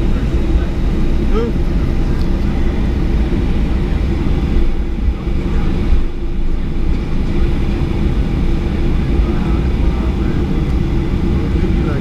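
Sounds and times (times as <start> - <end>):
jet taxiing cabin rumble: 0.0 - 12.0.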